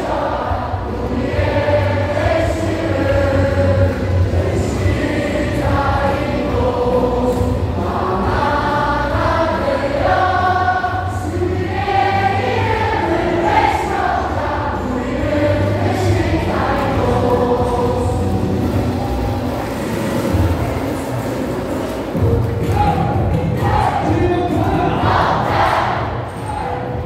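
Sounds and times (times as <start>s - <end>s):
amplified backing music: 0.0s - 27.0s
crowd singing in unison: 0.0s - 27.0s.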